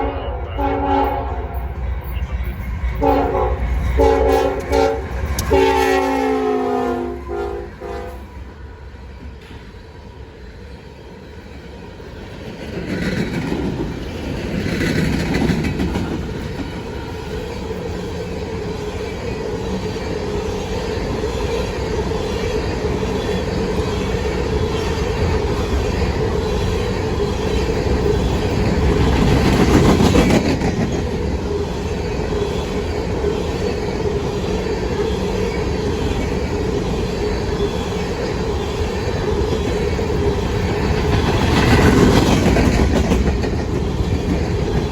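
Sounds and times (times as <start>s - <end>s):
train rumbling: 0.0s - 44.9s
train wheel tone: 0.0s - 44.9s
clickety-clack over rail joints: 0.8s - 6.0s, 7.2s - 44.9s.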